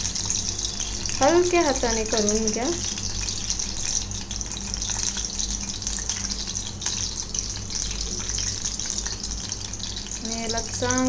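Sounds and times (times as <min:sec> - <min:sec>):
batter deep-frying in hot oil: 0:00.0 - 0:11.0.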